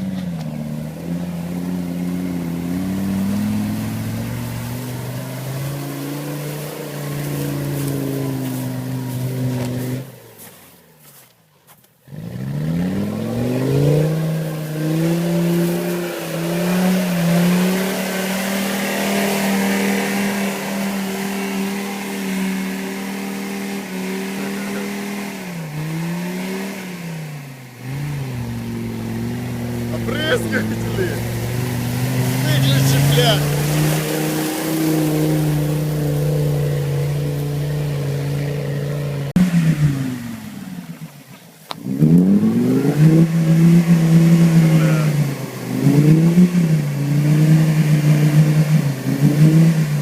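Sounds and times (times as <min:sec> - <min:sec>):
diesel engine revving under load: 0:00.0 - 0:10.4, 0:12.1 - 0:50.0.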